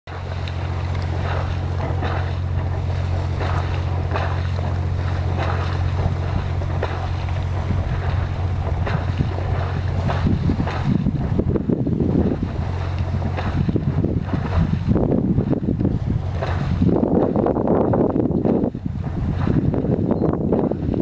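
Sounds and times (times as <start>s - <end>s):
steady low hum: 0.1s - 21.0s
water splashes: 0.1s - 21.0s
wind on microphone: 0.1s - 21.0s.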